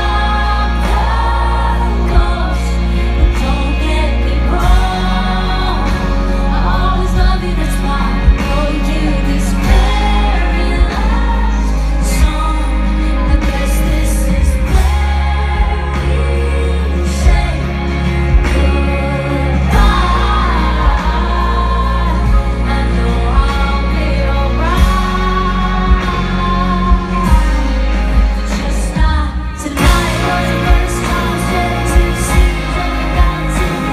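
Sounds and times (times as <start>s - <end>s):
steady drum beat: 0.0s - 24.0s, 24.6s - 33.9s
heavy bass: 0.0s - 33.9s
live pop band playing: 0.0s - 33.9s
person singing: 0.0s - 33.9s.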